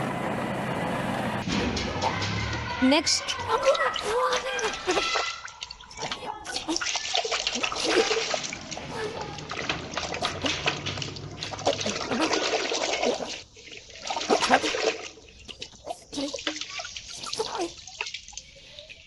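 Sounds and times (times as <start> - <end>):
water running and splashing: 2.0 - 19.0.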